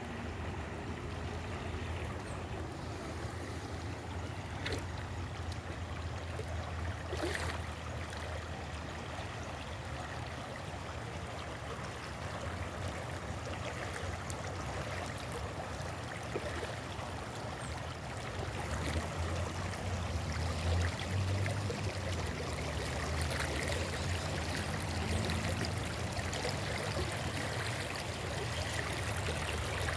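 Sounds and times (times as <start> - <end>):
stream flowing: 0.0 - 29.9.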